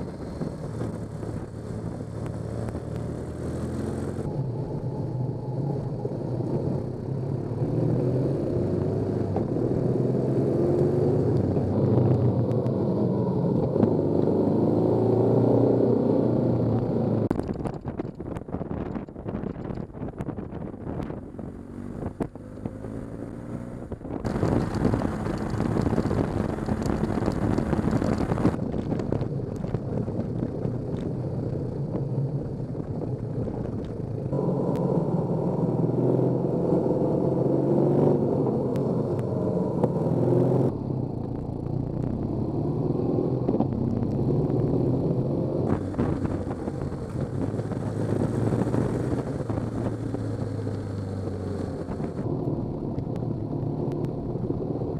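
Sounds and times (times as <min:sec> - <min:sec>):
motorcycle engine running: 0:00.0 - 0:54.9
wind and road noise: 0:00.0 - 0:54.9.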